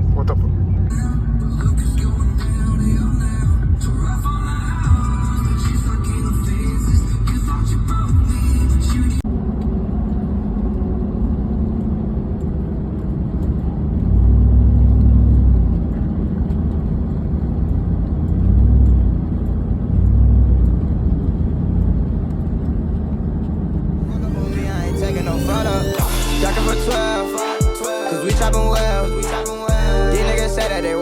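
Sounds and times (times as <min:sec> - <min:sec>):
road rumble: 0:00.0 - 0:27.3
vehicle engine: 0:00.0 - 0:27.3.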